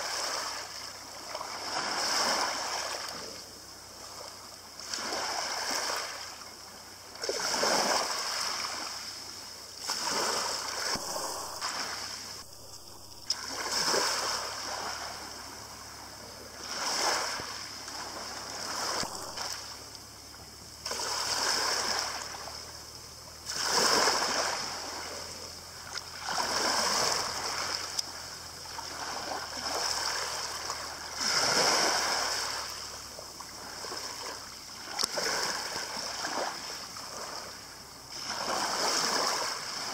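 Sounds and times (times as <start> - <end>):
waves lapping on pebbles: 0.0 - 39.9.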